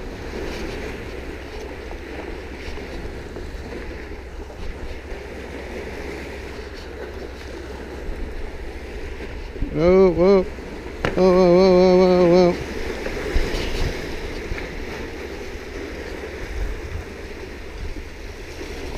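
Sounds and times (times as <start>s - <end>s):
water lapping against rocks: 0.0s - 18.9s
wind buffeting microphone: 0.0s - 18.9s.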